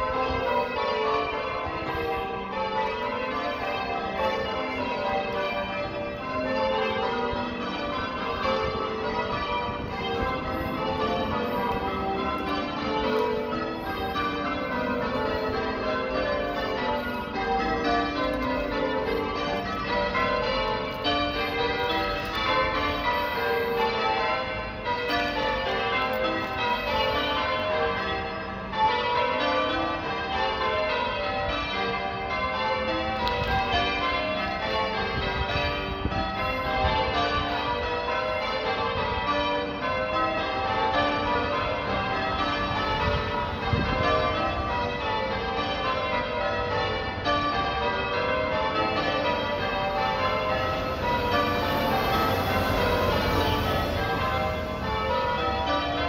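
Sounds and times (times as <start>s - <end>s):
church bells ringing: 0.0s - 56.0s.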